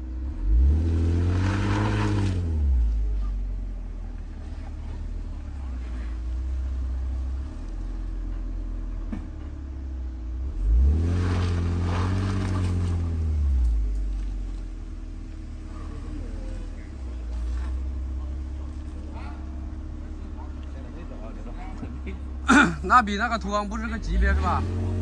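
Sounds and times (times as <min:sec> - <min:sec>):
suv engine revving: 0:00.0 - 0:25.0.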